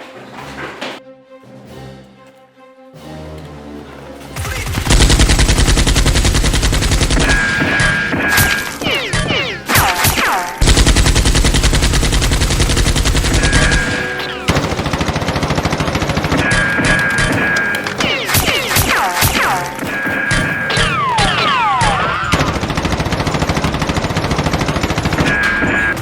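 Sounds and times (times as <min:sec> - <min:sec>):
automatic gunfire: 0:04.4 - 0:26.0.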